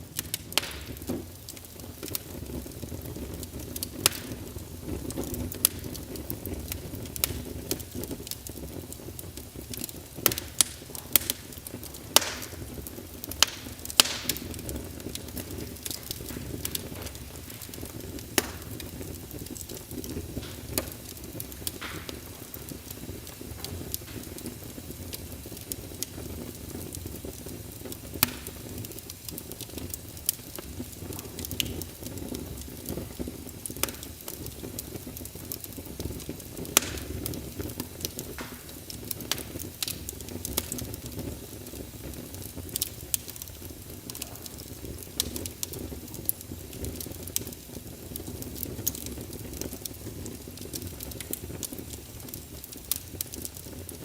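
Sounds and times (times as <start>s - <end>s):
low fire rumble: 0.0s - 54.0s
wood fire crackling and popping: 0.0s - 54.0s.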